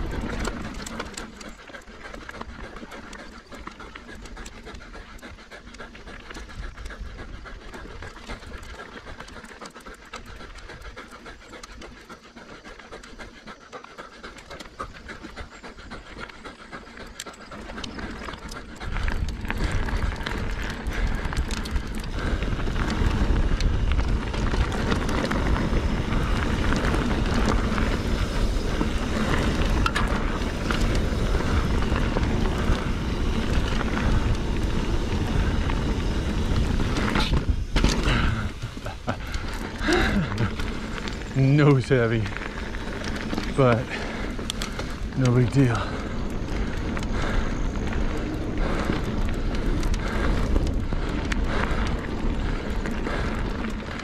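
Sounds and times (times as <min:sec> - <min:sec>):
person panting hard: 0:00.0 - 0:54.0
wind and tyre noise rushing: 0:00.0 - 0:54.0.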